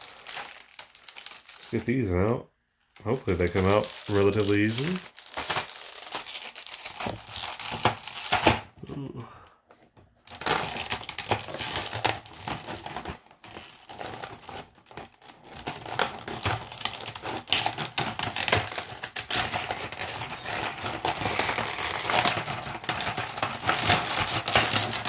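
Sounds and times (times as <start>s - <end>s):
plastic packaging crinkling: 0.0s - 9.0s, 10.2s - 25.0s.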